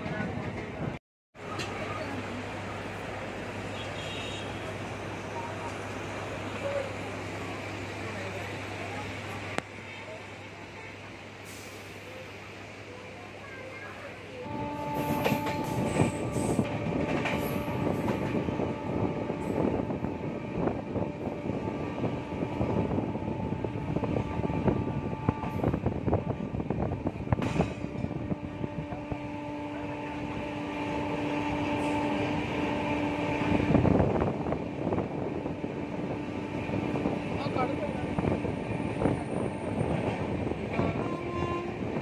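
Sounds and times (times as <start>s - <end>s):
train rumbling on rails: 0.0s - 42.0s.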